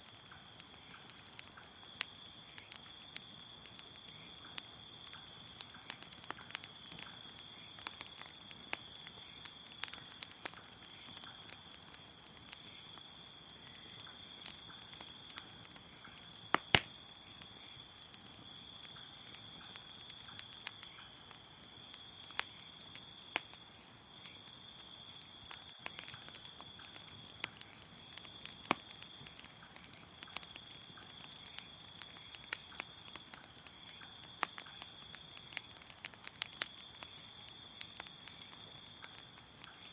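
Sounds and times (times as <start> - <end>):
crickets chirping: 0.0 - 39.9
fire crackling: 0.0 - 39.9.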